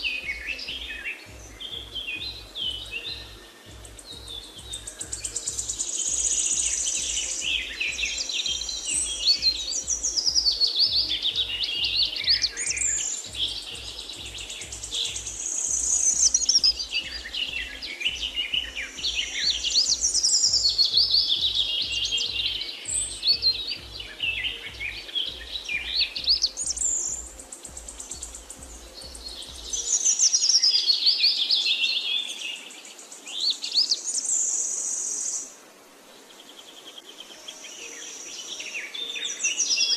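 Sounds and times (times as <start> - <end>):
songbirds chirping and warbling: 0.0 - 39.9.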